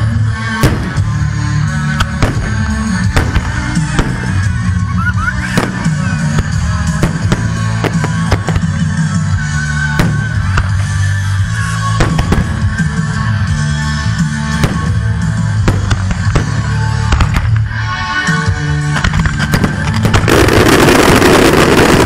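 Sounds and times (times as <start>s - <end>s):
loud music: 0.0s - 22.0s
fireworks bursting with bangs: 0.4s - 22.0s.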